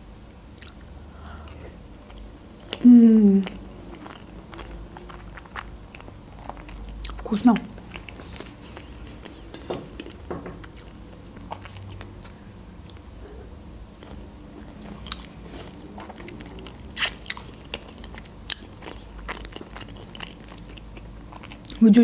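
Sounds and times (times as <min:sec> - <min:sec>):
person chewing chicken wings: 0:00.6 - 0:21.8.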